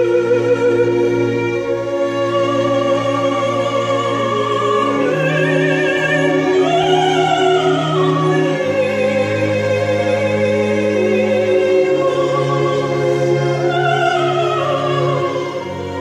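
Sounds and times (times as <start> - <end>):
operatic soprano singing: 0.0 - 16.0
orchestral strings: 0.0 - 16.0.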